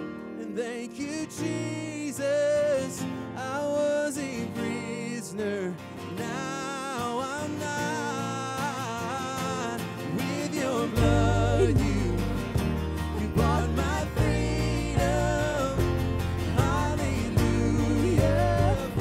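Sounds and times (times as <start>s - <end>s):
strummed acoustic guitars: 0.0s - 19.0s
man singing: 0.3s - 19.0s.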